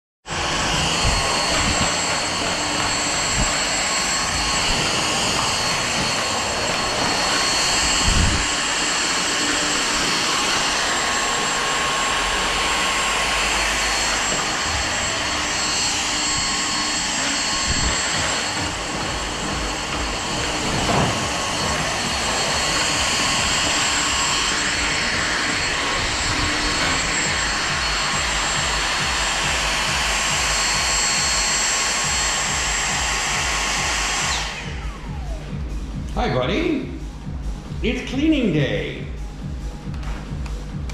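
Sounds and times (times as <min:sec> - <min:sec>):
vacuum cleaner whining: 0:00.2 - 0:40.9.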